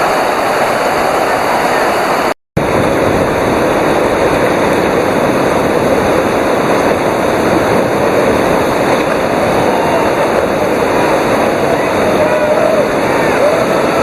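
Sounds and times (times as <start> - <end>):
whitewater rushing: 0.0 - 14.0.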